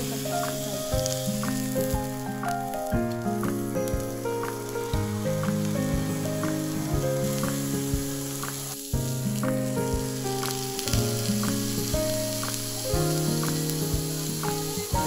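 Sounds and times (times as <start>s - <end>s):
background music of held notes: 0.0s - 15.0s
steak sizzling on griddle: 0.0s - 15.0s.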